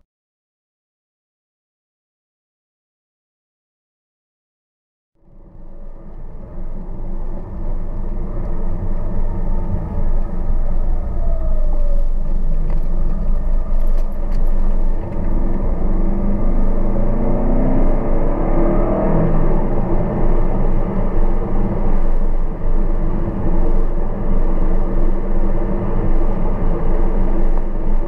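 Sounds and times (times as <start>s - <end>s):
car engine running: 5.2s - 28.0s
road noise rumble: 5.2s - 28.0s.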